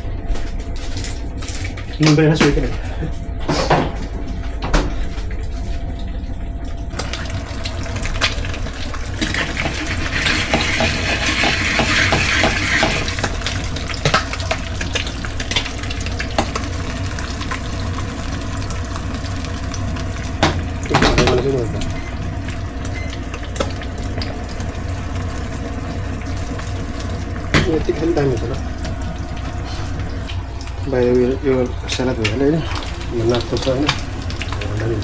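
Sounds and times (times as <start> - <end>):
eggs sizzling in a frying pan: 6.9 - 35.0.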